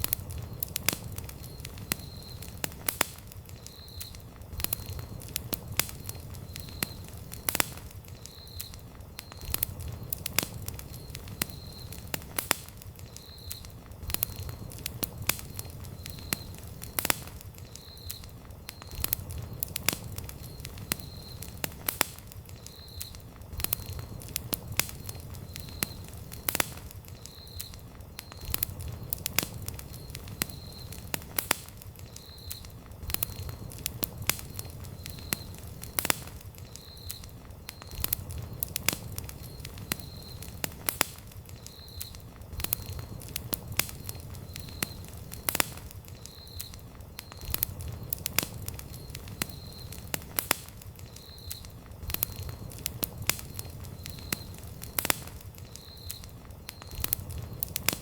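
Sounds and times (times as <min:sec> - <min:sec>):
campfire crackling and popping: 0:00.0 - 0:58.0
low rumble of flame: 0:00.0 - 0:58.0.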